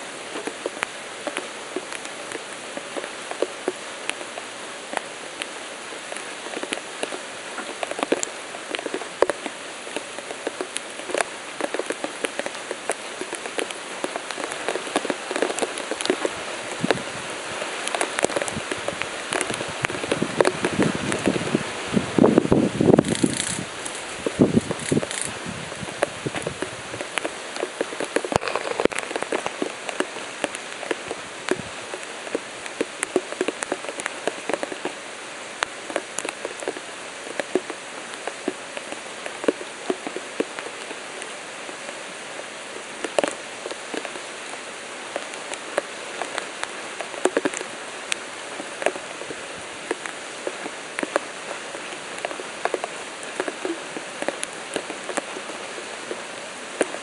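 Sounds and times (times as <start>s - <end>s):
rain hissing: 0.0s - 57.0s
raindrops striking sharply: 0.0s - 57.0s.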